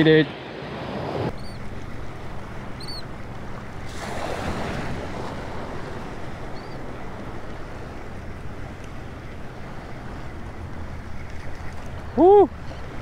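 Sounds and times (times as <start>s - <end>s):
small waves washing: 0.6s - 13.0s.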